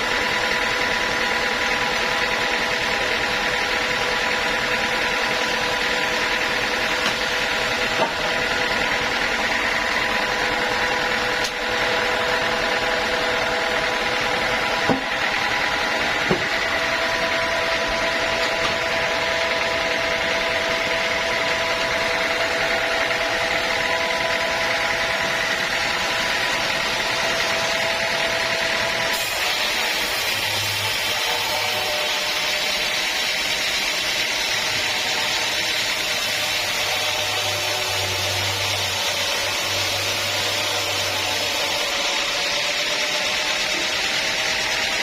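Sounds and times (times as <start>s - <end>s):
sawmill saw whining: 0.0s - 45.0s.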